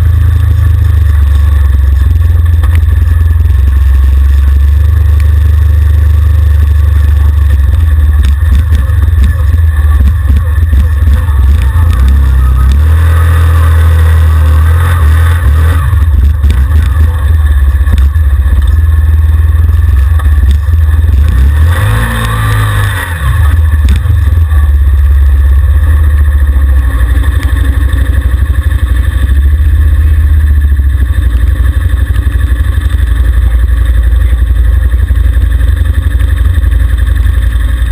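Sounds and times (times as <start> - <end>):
atv engine revving: 0.0 - 37.9
overloaded low rumble: 0.0 - 37.9.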